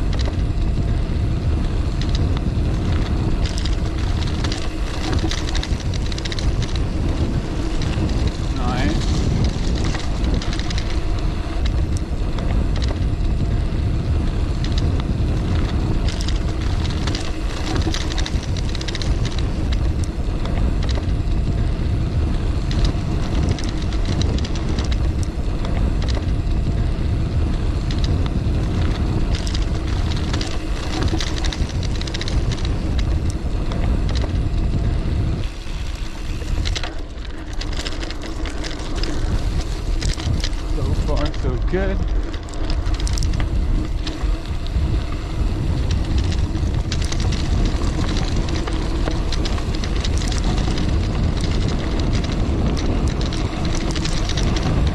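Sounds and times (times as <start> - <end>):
bike ticks and rattles: 0.0 - 54.9
bike tyres rolling over dirt: 0.0 - 54.9
wind buffeting microphone: 0.0 - 54.9.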